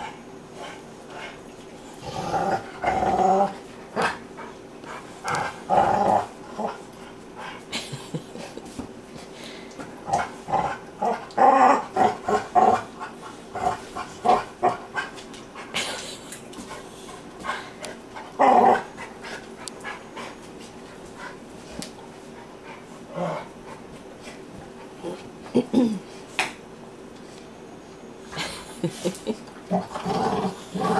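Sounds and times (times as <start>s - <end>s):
dogs play-growling: 0.0s - 8.9s, 9.7s - 25.7s, 28.3s - 30.9s.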